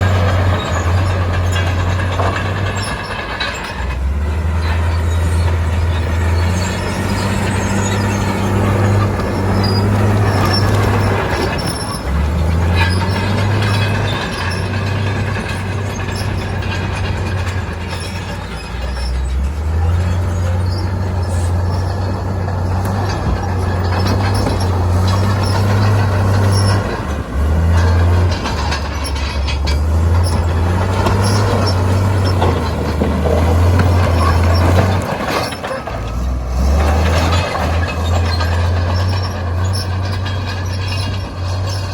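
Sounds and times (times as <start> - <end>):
diesel construction machinery: 0.0 - 41.9
metal squeaks and clanks: 0.0 - 41.9.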